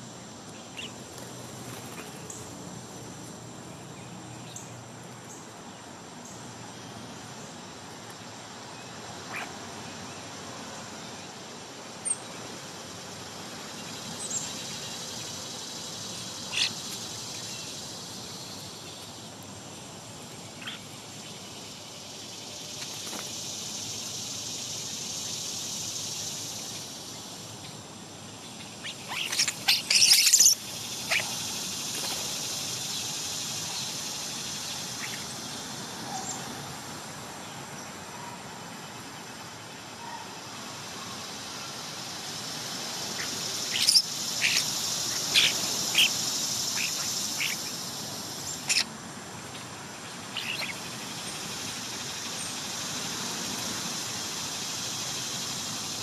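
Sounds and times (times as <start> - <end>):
insects chorus: 0.0 - 56.0
songbirds calling: 0.0 - 56.0.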